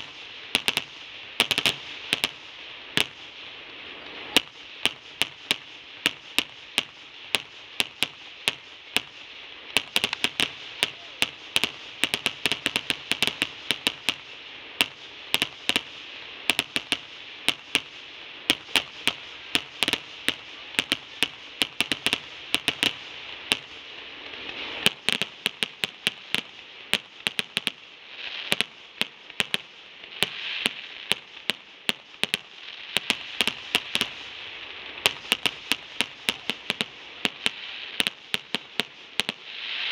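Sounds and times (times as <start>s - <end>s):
fireworks bursts and bangs: 0.0s - 39.9s
fireworks hiss: 0.0s - 39.9s.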